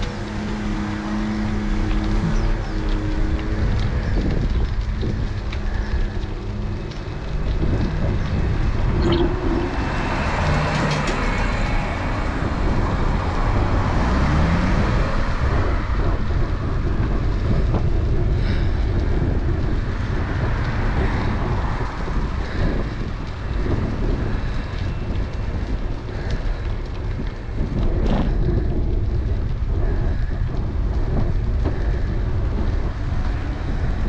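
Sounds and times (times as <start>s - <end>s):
bicycle tyre road rumble: 0.0s - 34.0s
wind on microphone: 0.0s - 34.0s.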